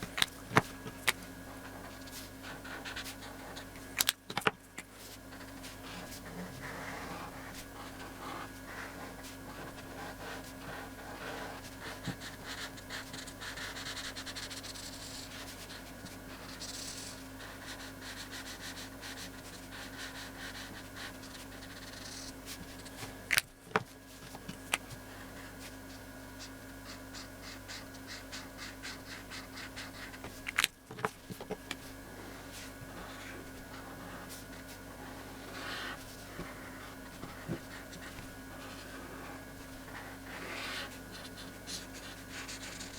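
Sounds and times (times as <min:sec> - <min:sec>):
steady hum: 0:00.0 - 0:42.9
scratchy colouring on paper: 0:01.5 - 0:03.7, 0:05.0 - 0:23.2, 0:25.1 - 0:30.5, 0:32.1 - 0:42.9.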